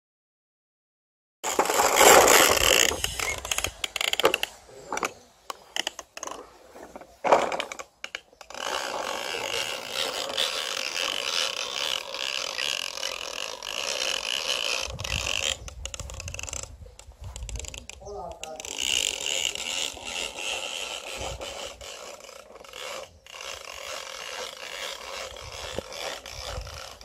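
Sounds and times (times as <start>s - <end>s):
toy lawnmower clicking rattle: 1.5s - 6.4s, 7.2s - 27.0s.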